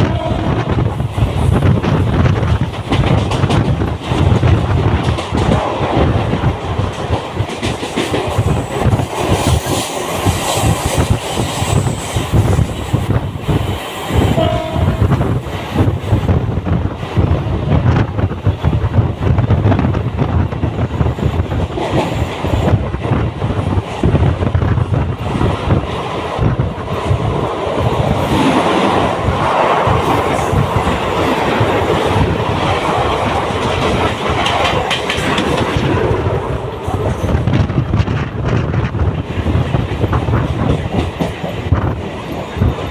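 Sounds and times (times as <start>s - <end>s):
low train rumble: 0.0s - 42.9s
train wheels clattering over rail joints: 0.0s - 42.9s.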